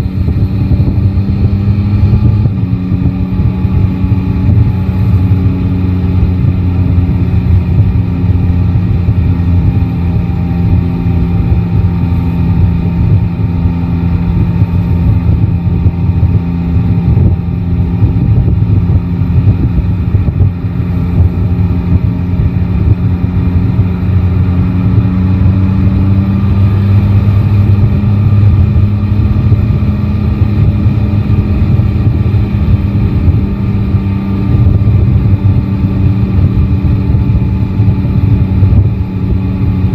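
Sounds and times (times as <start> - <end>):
motorcycle engine running: 0.0 - 39.9
tyre and wind noise: 0.0 - 39.9.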